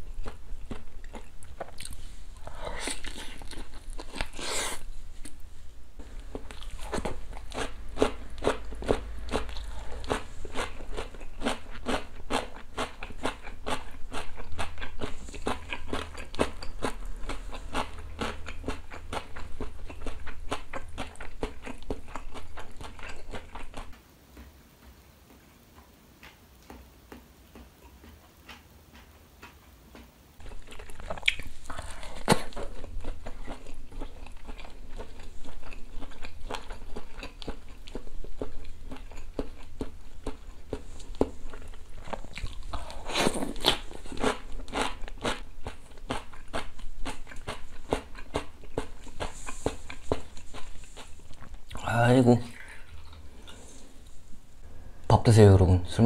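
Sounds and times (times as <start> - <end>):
crunchy chewing: 0.0 - 5.4, 6.0 - 54.2.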